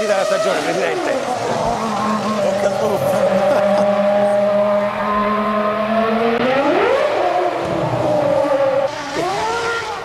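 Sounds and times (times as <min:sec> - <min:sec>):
racing car engine accelerating: 0:00.0 - 0:10.0.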